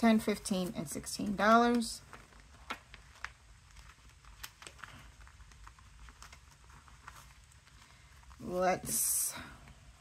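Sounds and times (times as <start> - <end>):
paper bills rustling: 0.0 - 9.2.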